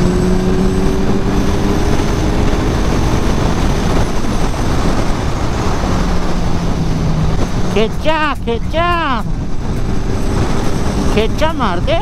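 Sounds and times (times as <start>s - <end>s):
motorcycle engine accelerating: 0.0s - 12.0s
wind rush over microphone: 0.0s - 12.0s.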